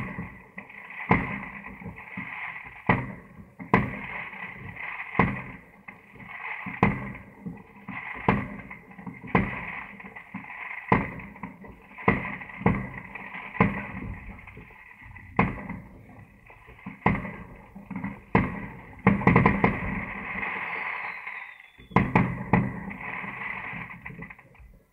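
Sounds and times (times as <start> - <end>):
fireworks bangs: 0.0 - 24.9
steady hiss: 0.0 - 24.9.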